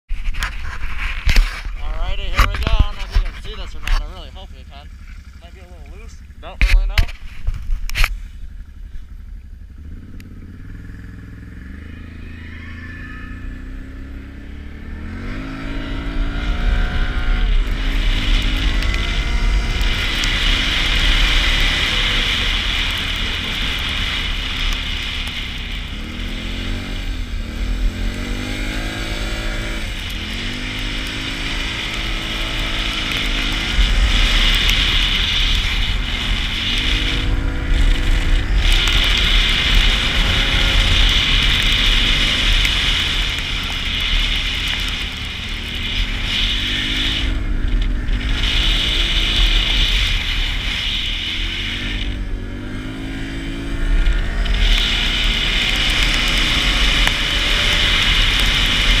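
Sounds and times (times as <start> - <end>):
atv engine revving: 0.2 - 59.0.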